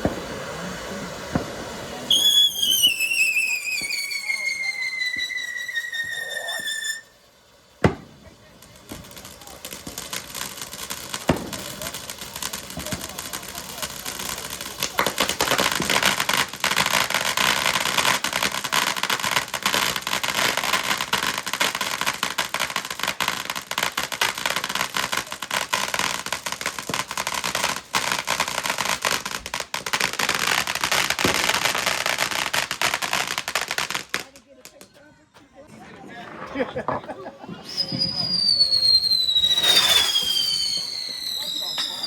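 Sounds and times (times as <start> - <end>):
fireworks crackling: 0.0 - 42.0.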